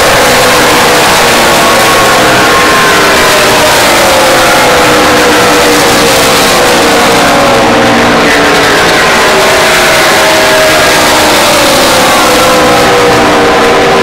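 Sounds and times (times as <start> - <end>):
racing car engines passing: 0.0 - 14.0.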